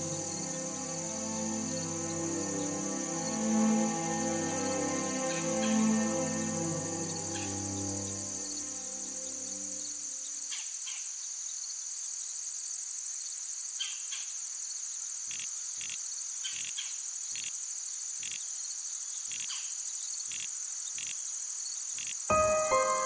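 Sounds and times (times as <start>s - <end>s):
insects chorus: 0.0s - 23.0s.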